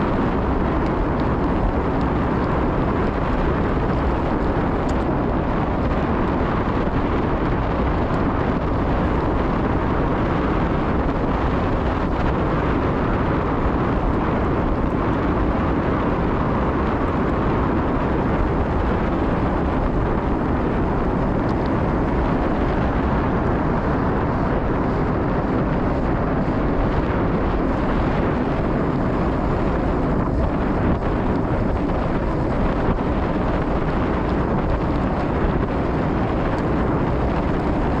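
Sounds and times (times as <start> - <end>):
bike tyres rumbling on gravel: 0.0 - 38.0
wind rushing over microphone: 0.0 - 38.0.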